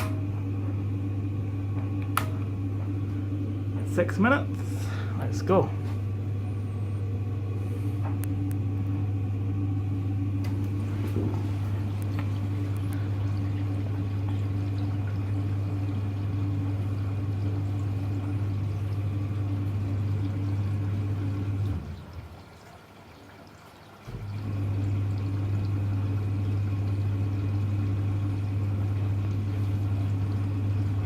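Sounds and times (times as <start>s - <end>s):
washing machine humming: 0.0s - 31.0s
water running into drum: 0.0s - 31.0s.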